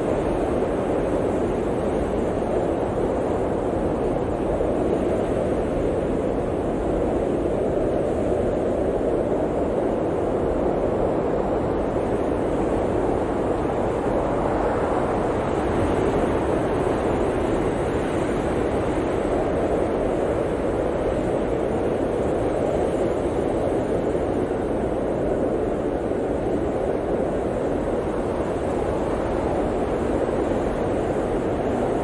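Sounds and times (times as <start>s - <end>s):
blizzard wind rushing: 0.0s - 32.0s.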